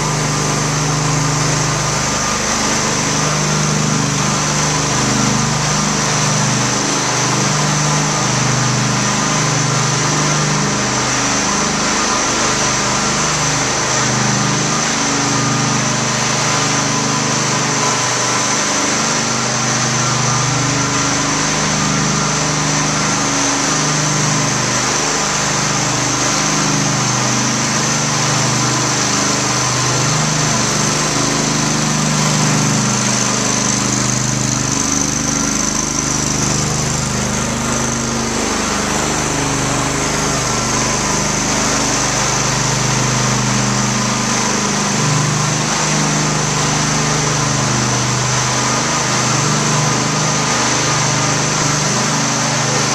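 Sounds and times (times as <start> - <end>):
floor burnisher engine running: 0.0 - 52.9.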